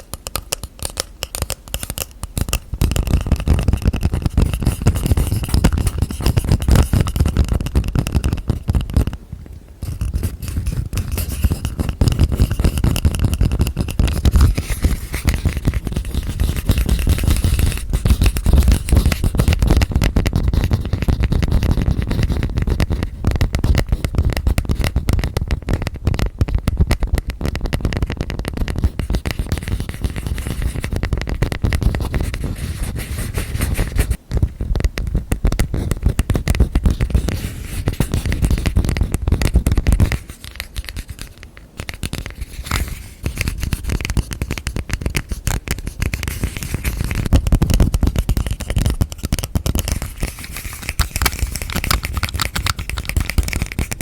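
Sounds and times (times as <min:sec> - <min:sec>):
hands tapping on objects: 0:00.0 - 0:09.2, 0:09.8 - 0:32.5, 0:34.3 - 0:54.0.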